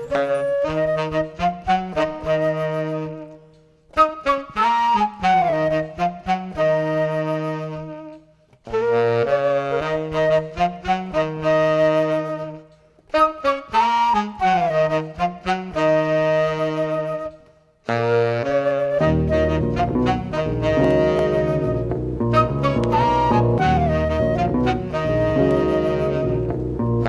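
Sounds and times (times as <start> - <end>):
solo wind instrument melody: 0.0 - 27.0.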